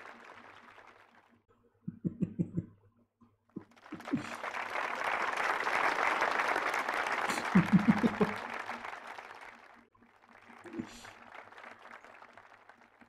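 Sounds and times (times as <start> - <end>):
crowd applause: 0.0 - 1.4, 3.6 - 13.0.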